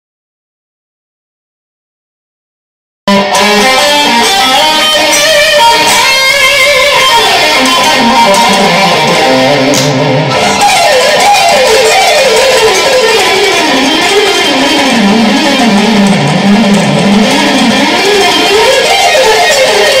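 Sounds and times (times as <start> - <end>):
electric guitar fast lead runs: 3.1 - 20.0.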